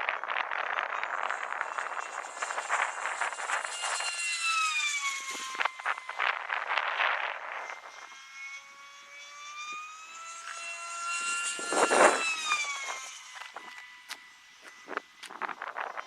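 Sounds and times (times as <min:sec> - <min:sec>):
model airplane motor whine: 0:00.0 - 0:16.0.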